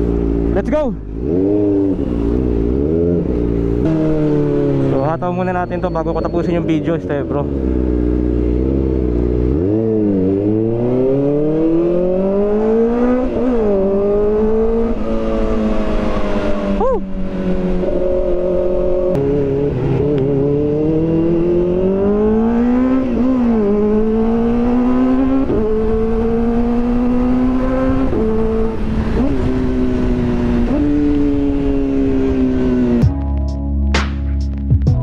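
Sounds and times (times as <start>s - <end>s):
motorcycle exhaust revving: 0.0s - 6.4s, 7.5s - 33.0s.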